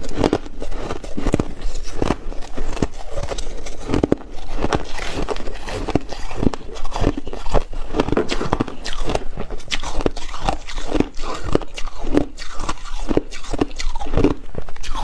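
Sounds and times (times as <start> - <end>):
person chewing ice: 0.0 - 15.0.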